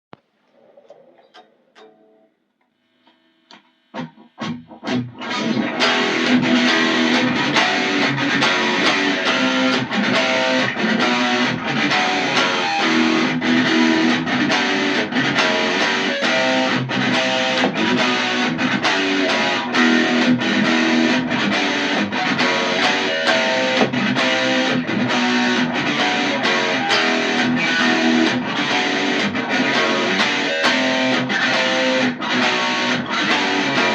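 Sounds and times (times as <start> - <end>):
electric guitar riff: 3.0 - 33.9.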